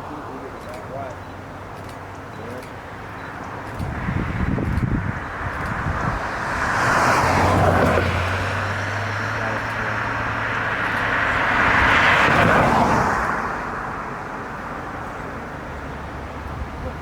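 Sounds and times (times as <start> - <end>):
low engine hum: 0.0 - 17.0
vehicles passing: 0.0 - 17.0.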